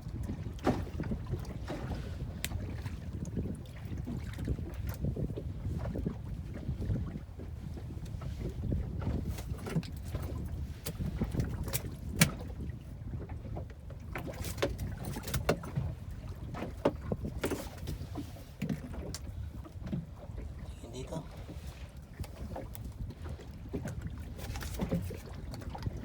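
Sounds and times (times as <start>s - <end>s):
knocks and clicks from boat hull: 0.0s - 20.7s, 21.4s - 26.0s
low rumble of wind and water: 0.0s - 26.0s.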